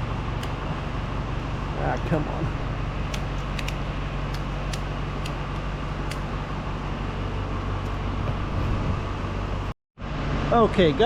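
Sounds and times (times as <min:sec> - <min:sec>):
engine idling with low hum: 0:00.0 - 0:11.0.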